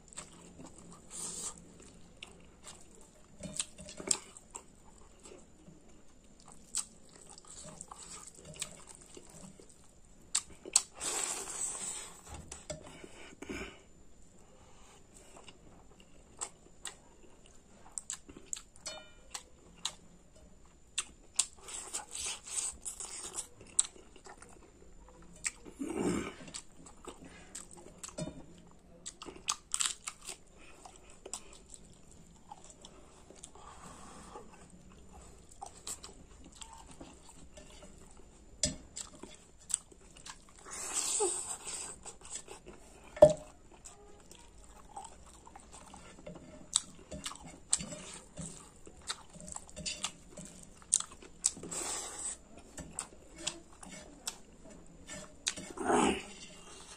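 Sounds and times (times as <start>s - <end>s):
person chewing and crunching food: 0.0s - 56.9s.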